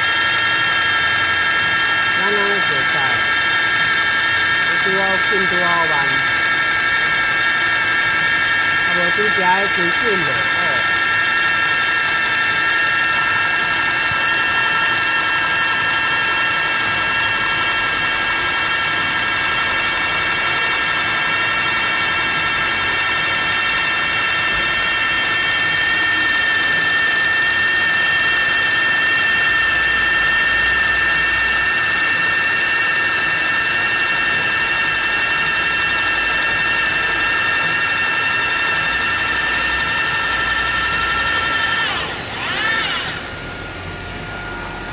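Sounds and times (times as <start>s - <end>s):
welding machine high whine: 0.0s - 44.9s.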